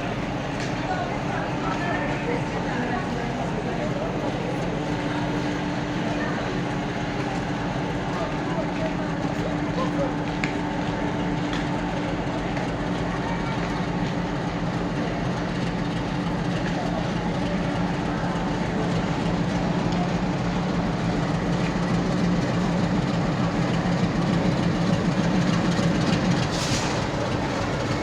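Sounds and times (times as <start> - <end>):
diesel locomotive engine running: 0.0 - 28.0.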